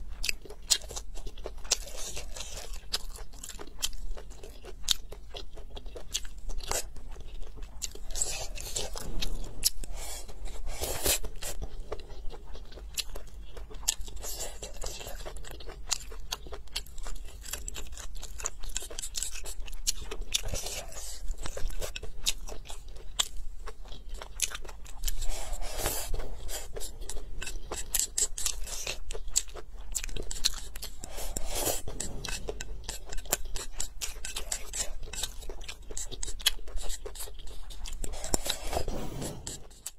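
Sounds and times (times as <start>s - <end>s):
person chewing and smacking: 0.0s - 39.9s.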